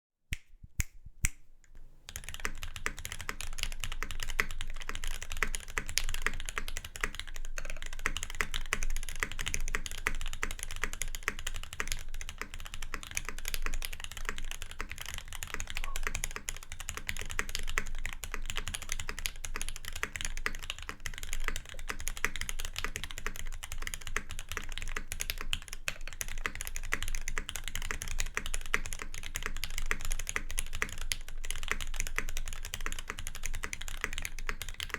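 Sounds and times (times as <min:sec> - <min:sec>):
mechanical keyboard typing: 0:02.1 - 0:34.9.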